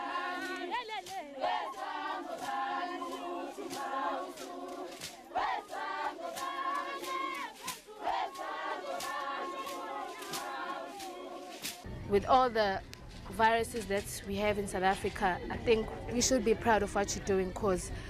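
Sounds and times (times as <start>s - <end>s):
women singing and chanting: 0.0s - 18.0s.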